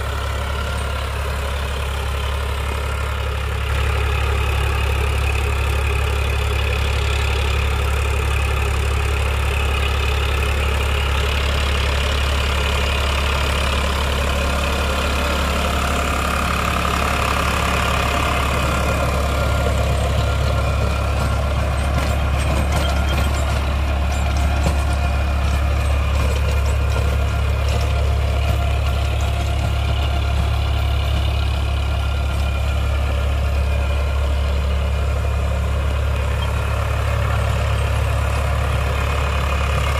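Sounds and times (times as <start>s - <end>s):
tiller blades rattling in soil: 0.0s - 39.9s
tractor diesel engine under load: 0.0s - 39.9s.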